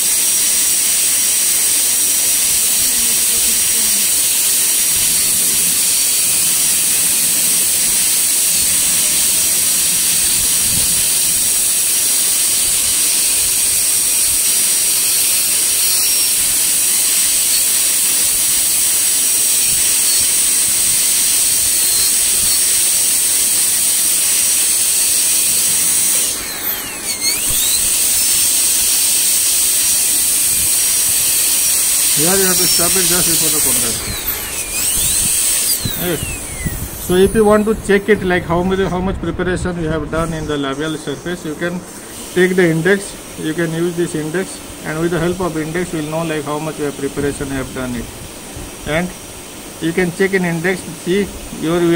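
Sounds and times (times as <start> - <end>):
dental drill hissing: 0.0 - 51.9.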